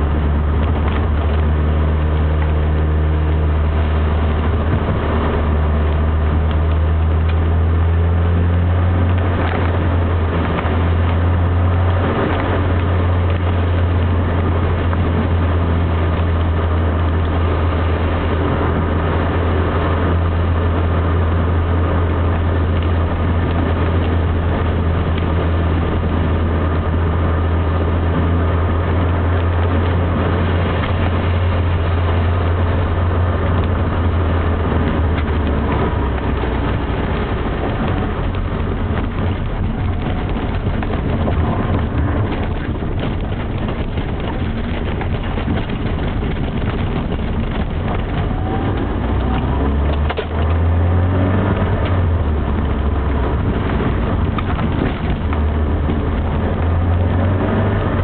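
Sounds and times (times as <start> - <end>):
car engine drone: 0.0 - 58.0
tyre noise on wet road: 0.0 - 58.0.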